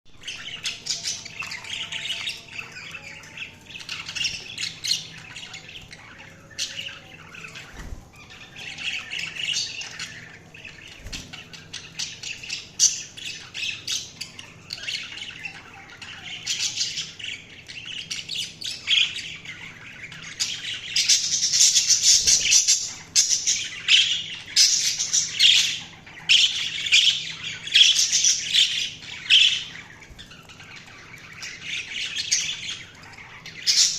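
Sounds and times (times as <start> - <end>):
budgerigars chirping and chattering: 0.1 - 33.9.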